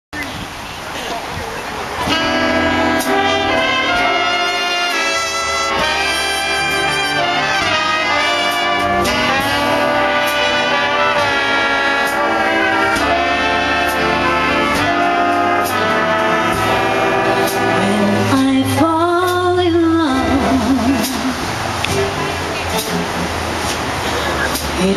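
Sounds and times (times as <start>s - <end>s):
drums: 0.2s - 24.9s
trumpets: 1.9s - 24.9s
saxophones: 2.0s - 24.7s
trombones: 2.0s - 24.9s
upright bass: 2.0s - 24.9s.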